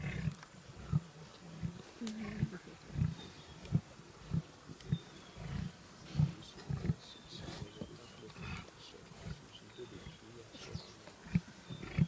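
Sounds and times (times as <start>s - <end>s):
lions growling: 0.0s - 12.0s.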